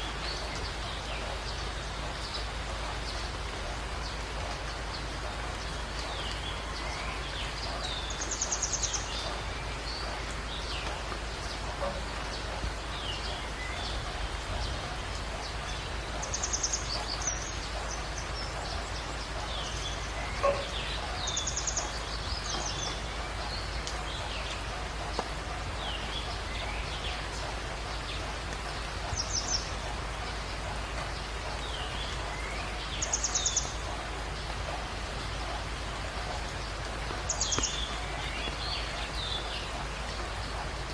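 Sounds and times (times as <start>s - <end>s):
birds chirping: 0.0s - 40.9s
rain hissing: 0.0s - 40.9s.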